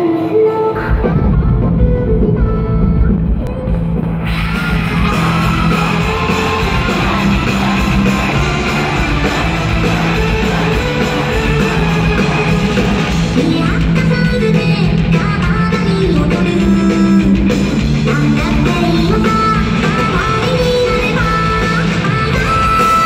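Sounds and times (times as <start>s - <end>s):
live rock band playing: 0.0s - 23.0s
audience yelling and cheering: 3.9s - 23.0s.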